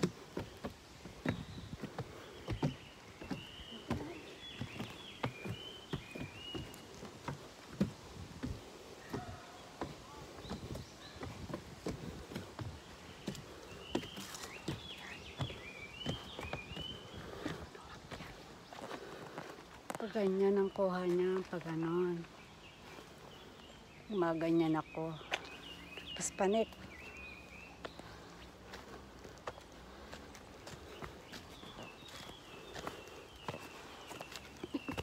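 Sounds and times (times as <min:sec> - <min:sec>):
bird chirping: 0:00.0 - 0:08.1, 0:08.9 - 0:35.0
footsteps on wooden steps: 0:00.0 - 0:35.0.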